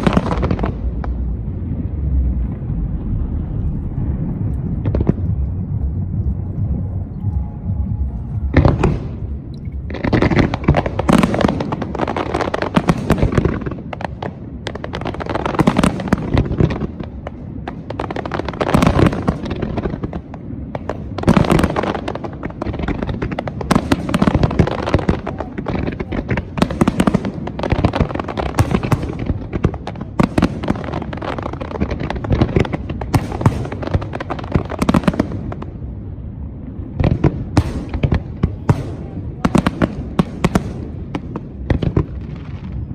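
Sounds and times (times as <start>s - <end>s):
fireworks bangs and crackle: 0.0s - 42.9s.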